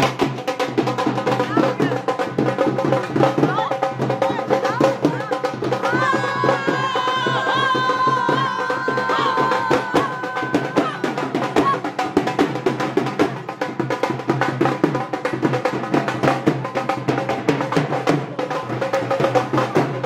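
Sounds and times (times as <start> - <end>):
fast drum beats: 0.0 - 20.0.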